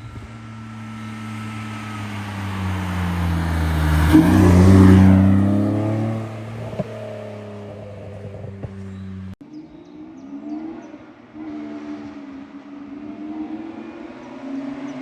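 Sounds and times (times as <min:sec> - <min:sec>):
car engine revving as it passes: 0:00.0 - 0:09.4, 0:10.0 - 0:15.0.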